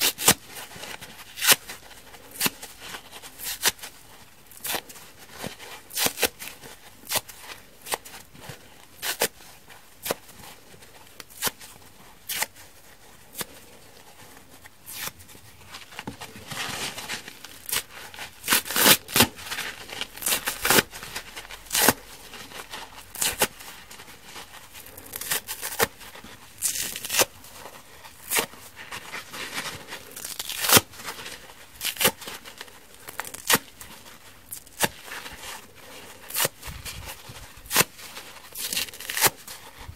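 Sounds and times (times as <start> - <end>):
foam sponge tearing: 0.0 - 39.9.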